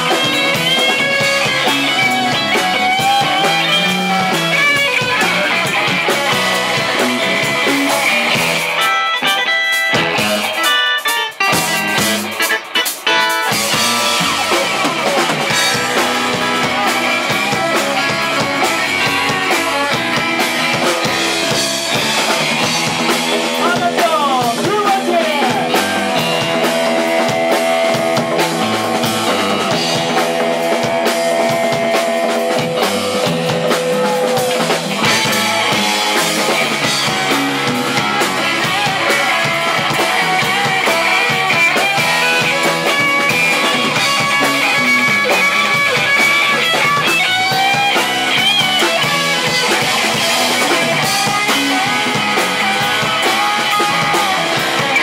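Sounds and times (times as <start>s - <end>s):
live band playing upbeat instrumental: 0.0s - 55.0s.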